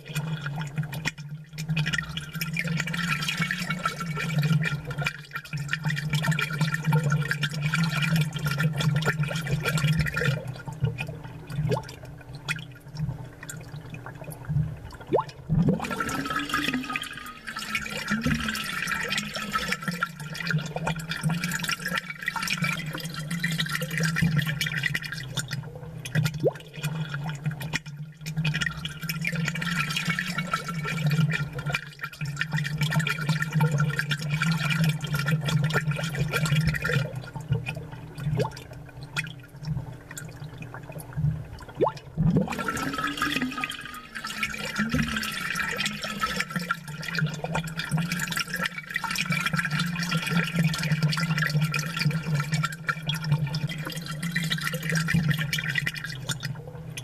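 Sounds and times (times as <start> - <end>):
aquarium water bubbling: 0.0 - 57.0.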